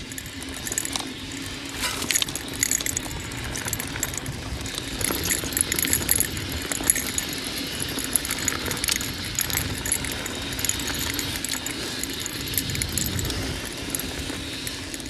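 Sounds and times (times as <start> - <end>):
bike chain rattling and clicking: 0.0 - 15.0
bike tyre noise: 0.0 - 15.0.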